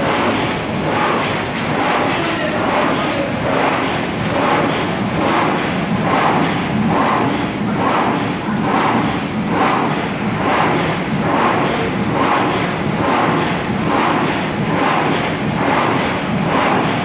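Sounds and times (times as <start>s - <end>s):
die-cutting machine running: 0.0s - 17.0s
regular machine stroke: 0.0s - 17.0s.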